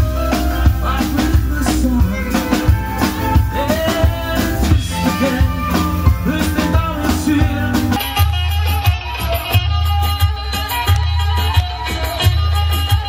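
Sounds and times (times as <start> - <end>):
background music with drums: 0.0 - 13.0.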